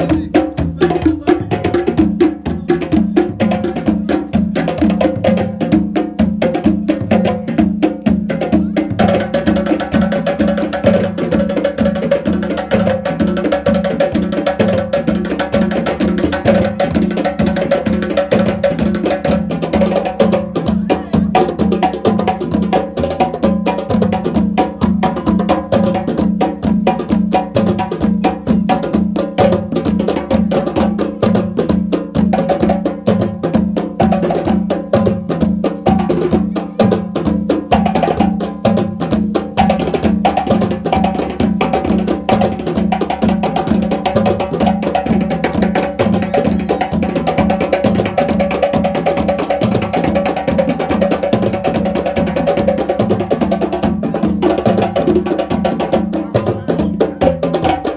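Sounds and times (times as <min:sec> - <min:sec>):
hand drums playing fast rhythm: 0:00.0 - 0:57.9.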